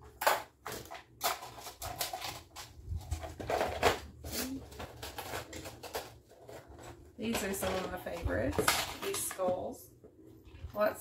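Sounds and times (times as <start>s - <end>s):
plastic boxes clicking and rattling: 0.0s - 9.7s.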